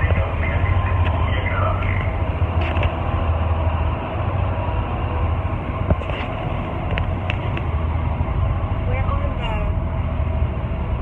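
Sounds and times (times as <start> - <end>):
ship engines low rumble: 0.0 - 11.0.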